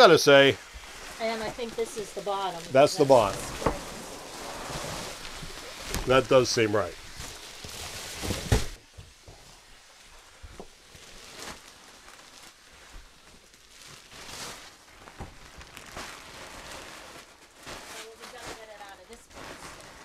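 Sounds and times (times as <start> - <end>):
plastic wrapping crinkling: 0.0 - 20.0.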